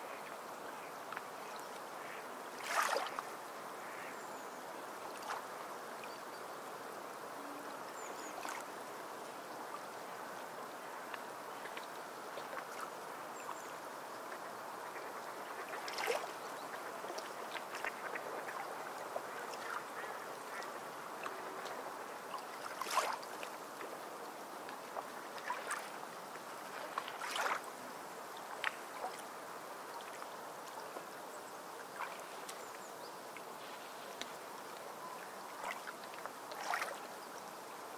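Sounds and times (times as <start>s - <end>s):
running water rushing: 0.0s - 37.9s.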